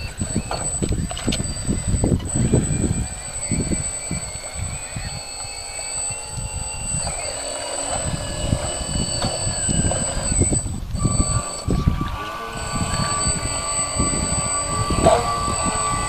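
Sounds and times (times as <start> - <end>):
model boat electric motor whine: 0.0 - 16.0
wind buffeting microphone: 0.0 - 16.0.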